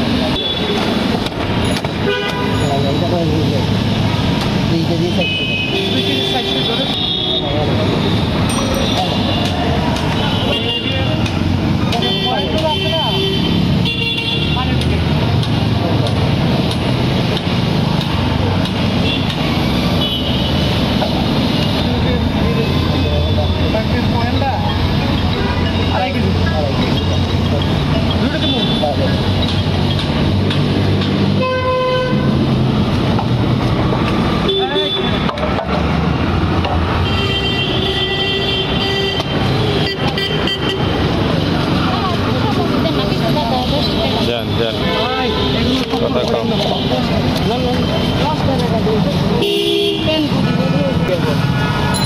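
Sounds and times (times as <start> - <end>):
street traffic rumble: 0.0 - 52.0.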